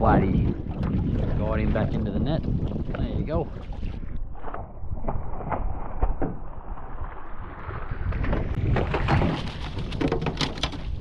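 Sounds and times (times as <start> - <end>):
water splashing: 0.0 - 11.0
wind buffeting microphone: 0.0 - 11.0.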